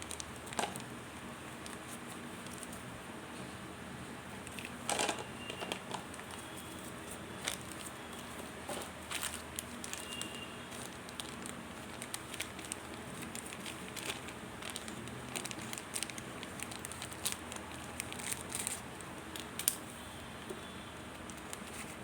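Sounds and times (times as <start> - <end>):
light clicks and crinkles: 0.0 - 0.9, 1.5 - 2.9, 4.4 - 19.8, 20.4 - 22.0.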